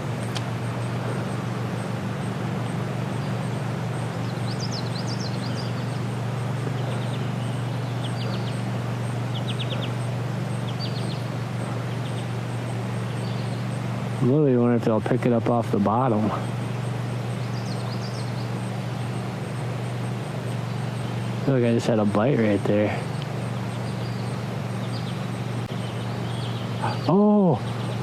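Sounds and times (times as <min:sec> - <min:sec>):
low background noise: 0:00.0 - 0:28.0
small birds chirping: 0:00.0 - 0:28.0.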